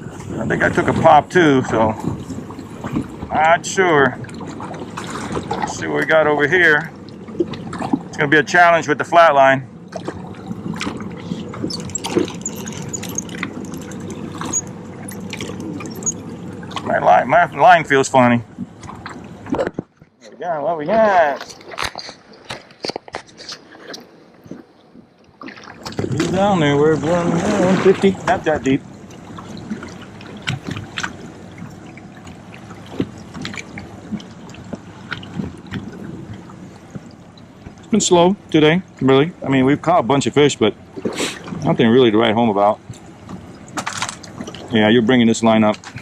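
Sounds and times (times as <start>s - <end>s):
water lapping against boat hull: 0.0s - 46.0s.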